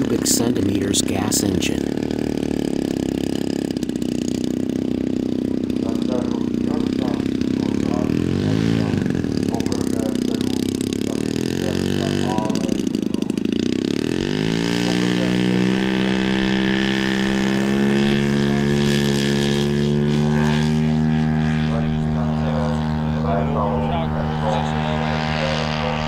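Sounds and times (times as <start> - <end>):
model airplane engine revving: 0.0 - 26.0.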